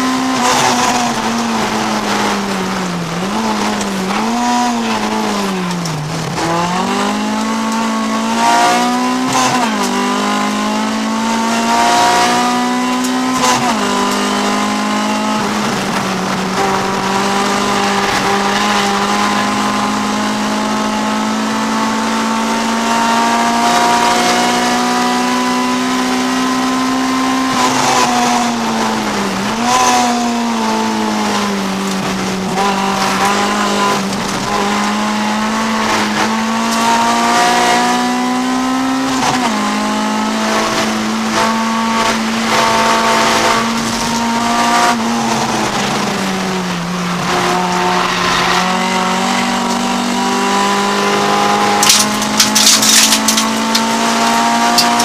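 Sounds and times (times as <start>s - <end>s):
race car engine shifting gears: 0.0s - 55.0s.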